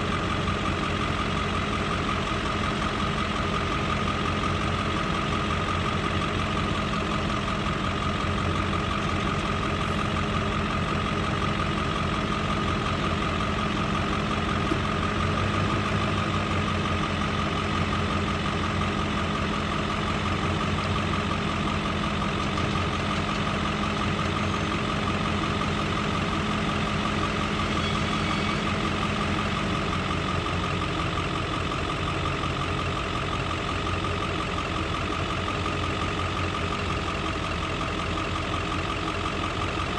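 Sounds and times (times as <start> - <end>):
machinery engine drone: 0.0 - 38.0.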